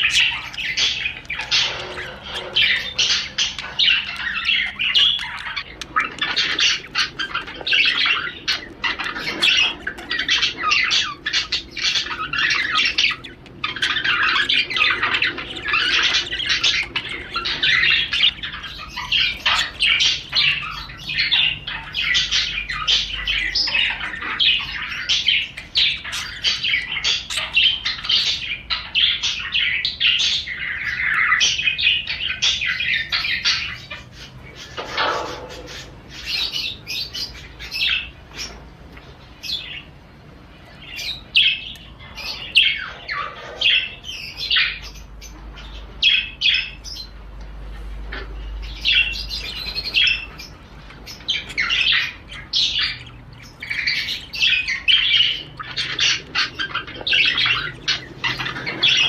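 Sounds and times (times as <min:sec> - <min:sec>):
budgerigars warbling and chattering: 0:00.0 - 0:59.0.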